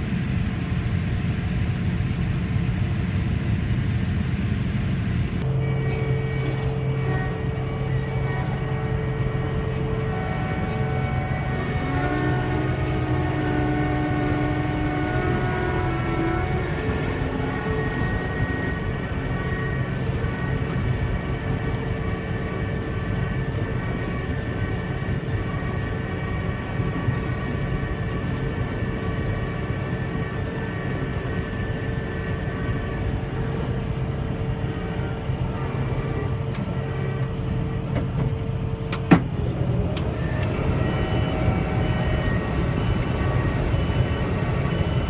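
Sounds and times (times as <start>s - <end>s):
deep engine drone: 0.0s - 45.0s
machinery whining tones: 0.0s - 45.0s.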